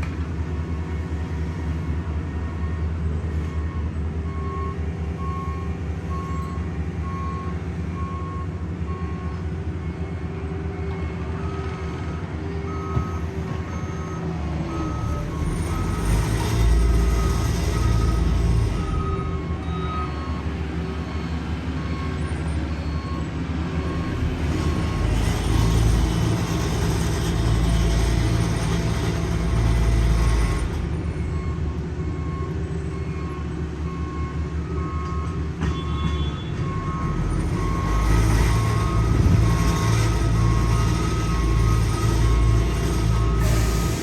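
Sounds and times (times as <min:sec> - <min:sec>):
heavy paving equipment engines: 0:00.0 - 0:44.0.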